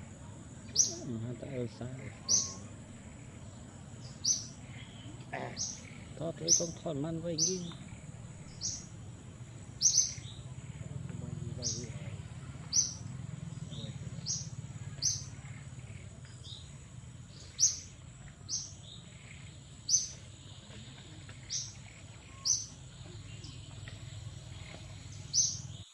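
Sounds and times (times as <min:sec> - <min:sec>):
bird chirping: 0:00.0 - 0:25.9
low background hum: 0:00.0 - 0:25.9.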